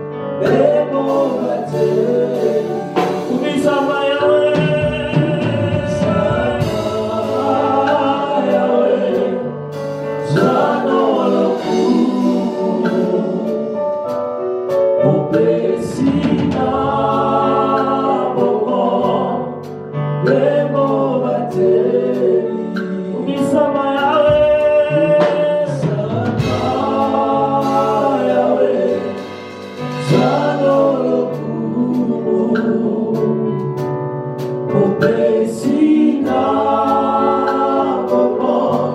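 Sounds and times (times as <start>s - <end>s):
keyboard and bass: 0.0s - 38.9s
lead singer and choir singing: 0.0s - 38.9s.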